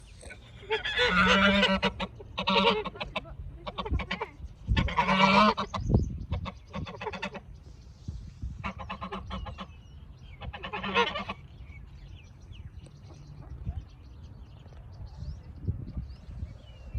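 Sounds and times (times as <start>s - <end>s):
birds calling rapidly: 0.0s - 16.9s.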